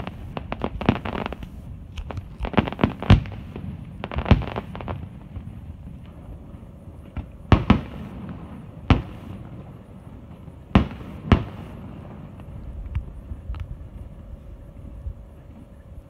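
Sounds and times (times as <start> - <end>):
fireworks bangs: 0.0 - 14.3
faint fireworks pops: 0.0 - 15.8.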